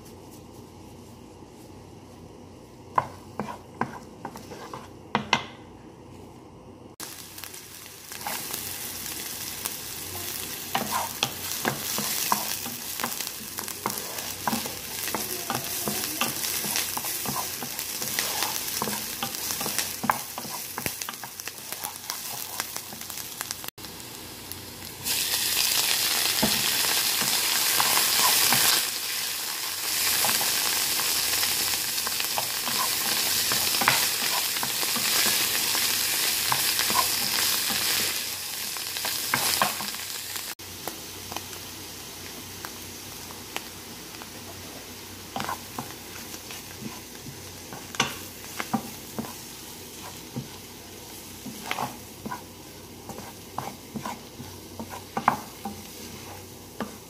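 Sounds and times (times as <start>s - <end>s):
onion and garlic sizzling in oil: 0.0s - 5.6s, 7.0s - 57.0s.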